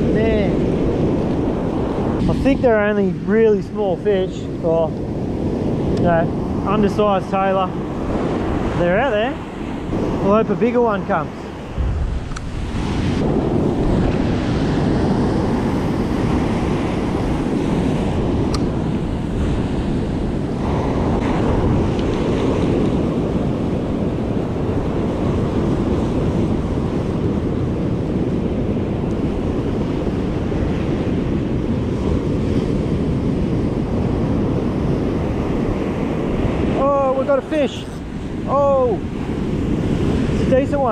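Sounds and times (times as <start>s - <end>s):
surf breaking on beach: 0.0s - 40.9s
wind rumbling on microphone: 0.0s - 40.9s.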